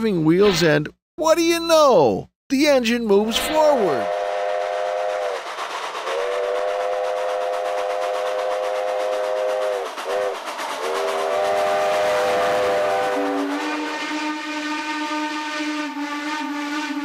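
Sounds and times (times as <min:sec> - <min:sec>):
steam engine chuffing and hissing: 0:03.2 - 0:17.0
steam locomotive chime whistle: 0:03.3 - 0:17.0.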